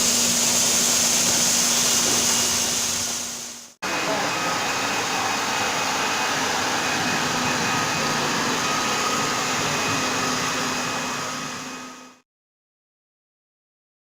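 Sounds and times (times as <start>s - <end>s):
floor scrubber whirring: 0.0s - 12.2s
vacuum motor whine: 0.0s - 12.2s.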